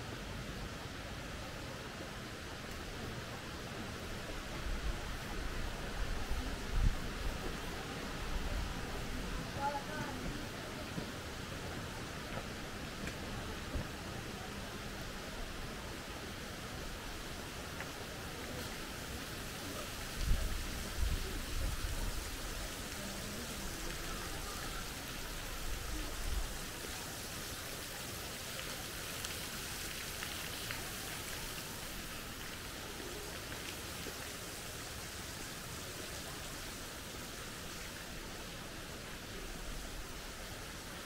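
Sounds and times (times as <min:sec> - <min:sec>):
water jets splashing into pond: 0:00.1 - 0:41.0.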